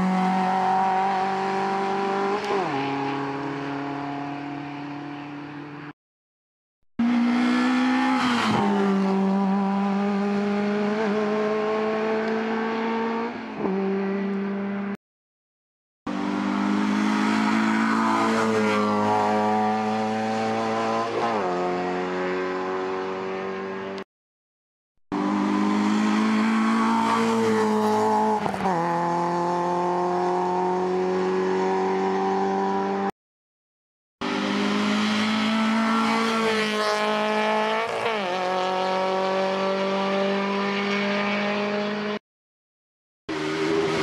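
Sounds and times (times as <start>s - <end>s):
race car engines revving uphill: 0.0s - 5.9s, 7.0s - 15.0s, 16.1s - 24.0s, 25.1s - 33.1s, 34.2s - 42.2s, 43.3s - 44.0s.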